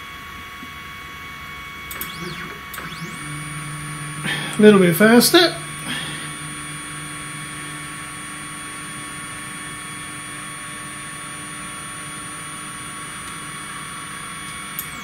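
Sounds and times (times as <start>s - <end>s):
stepper motors whining: 1.8s - 15.0s.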